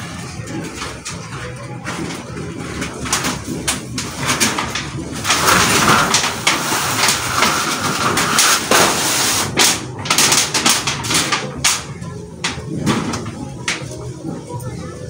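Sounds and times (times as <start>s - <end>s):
scraping on metal roof sheet: 0.0s - 13.9s.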